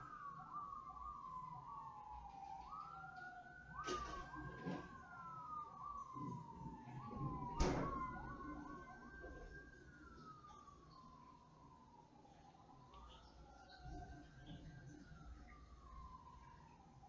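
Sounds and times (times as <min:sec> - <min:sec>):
siren rising and falling: 0:00.0 - 0:17.0.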